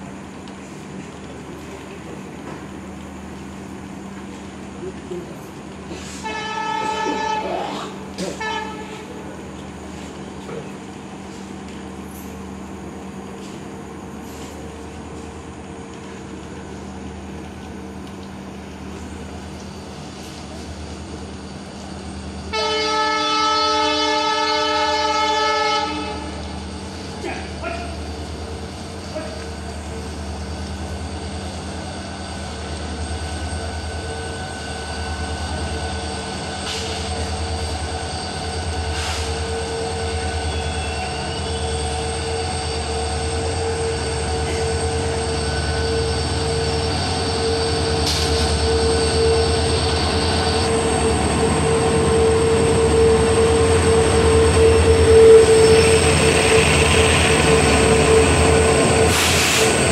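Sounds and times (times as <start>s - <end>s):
diesel locomotives passing: 0.0s - 59.9s.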